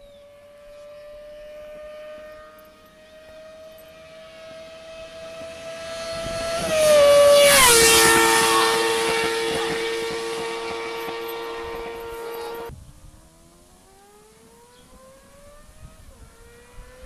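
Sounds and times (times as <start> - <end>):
motorcycle engine passing by: 0.0 - 12.7, 13.3 - 17.0.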